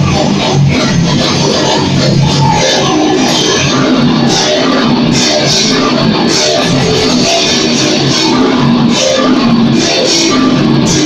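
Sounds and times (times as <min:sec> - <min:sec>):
metal band playing live: 0:00.0 - 0:11.0.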